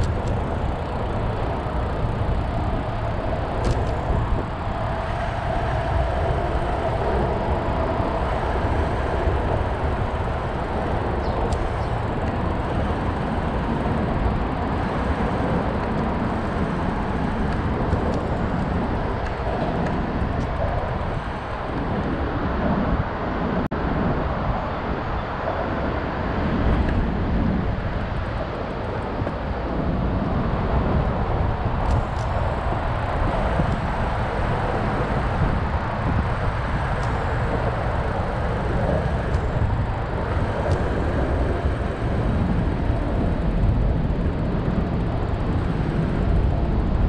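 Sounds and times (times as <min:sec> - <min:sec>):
low road rumble: 0:00.0 - 0:47.0
wind rush on microphone: 0:00.0 - 0:47.0.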